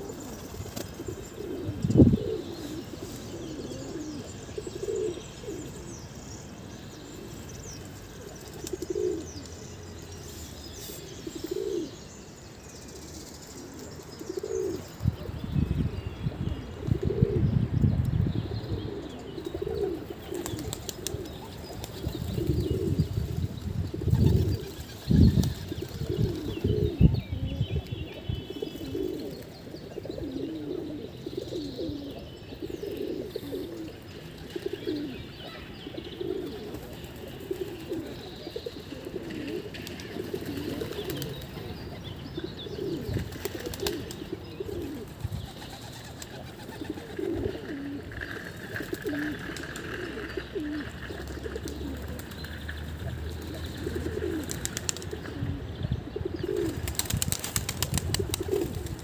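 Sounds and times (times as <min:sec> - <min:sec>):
pigeons cooing: 0:00.0 - 0:06.2, 0:06.9 - 0:09.5, 0:10.9 - 0:12.1, 0:12.9 - 0:59.0.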